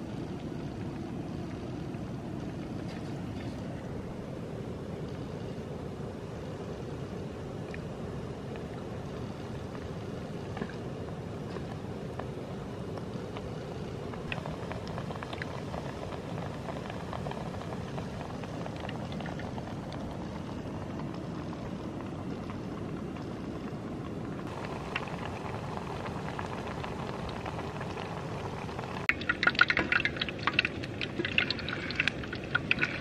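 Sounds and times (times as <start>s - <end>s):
deep-frying sizzle with crackles: 0.0s - 33.0s.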